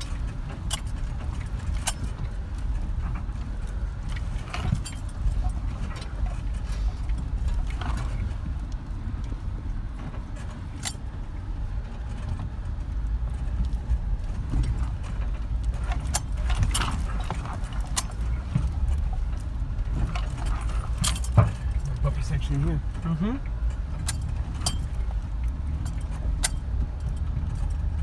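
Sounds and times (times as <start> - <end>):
engine and tyres rumbling: 0.0 - 28.0
vehicle rattling over rocks: 0.0 - 28.0.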